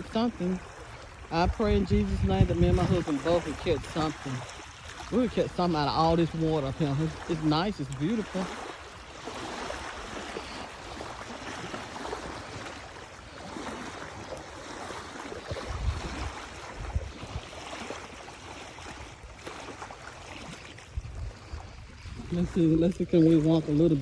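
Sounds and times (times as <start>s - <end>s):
wind buffeting microphone: 0.0s - 18.2s, 20.8s - 24.0s
rushing water: 0.0s - 24.0s.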